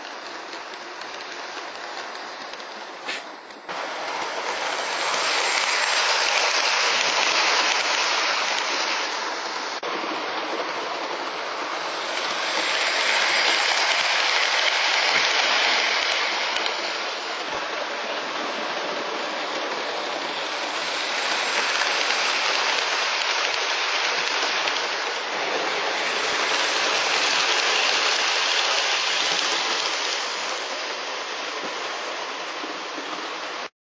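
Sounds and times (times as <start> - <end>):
steam locomotive hissing: 0.0 - 33.7.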